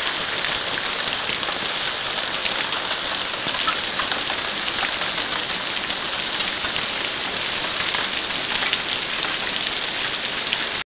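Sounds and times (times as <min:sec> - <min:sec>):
hail hissing on the ground: 0:00.0 - 0:10.8
hailstones ticking: 0:00.2 - 0:10.1.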